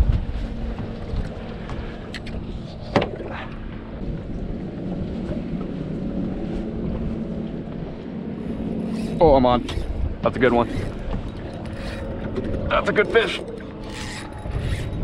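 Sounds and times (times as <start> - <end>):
water around a boat: 0.0 - 15.0
wind: 0.0 - 15.0.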